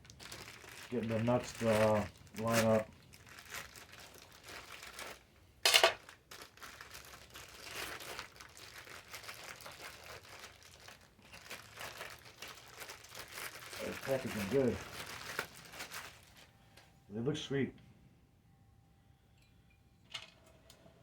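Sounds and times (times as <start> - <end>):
packaging crinkling and rustling: 0.0 - 16.9.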